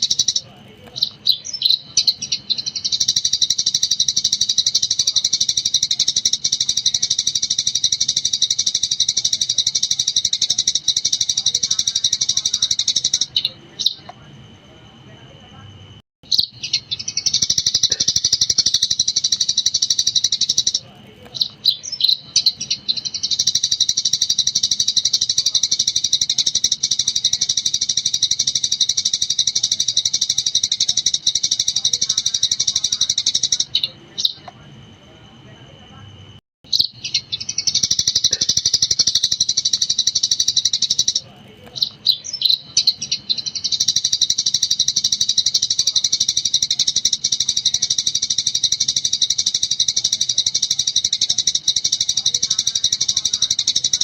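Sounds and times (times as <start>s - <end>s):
sparrow chirping rapidly: 0.0s - 14.2s, 16.2s - 34.5s, 36.7s - 54.0s.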